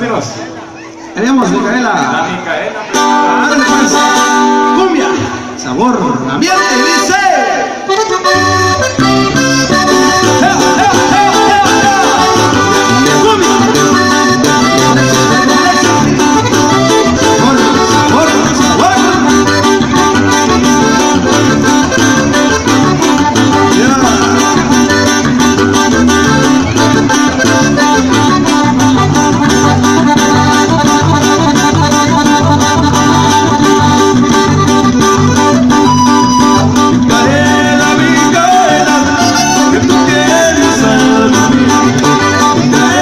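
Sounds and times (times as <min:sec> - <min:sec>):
accordion: 0:00.0 - 0:43.0
live band playing cumbia: 0:00.0 - 0:43.0
congas: 0:07.9 - 0:43.0
pulsing bass line: 0:08.3 - 0:43.0.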